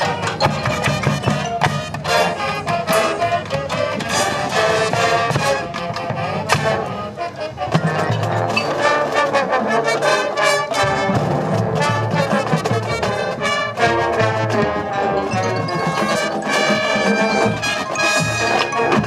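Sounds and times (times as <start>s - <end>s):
brass playing: 0.0s - 19.0s.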